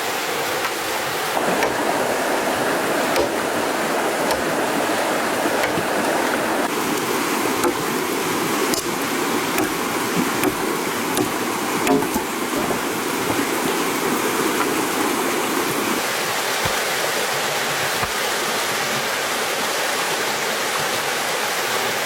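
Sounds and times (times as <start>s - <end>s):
water rushing: 0.0s - 21.7s.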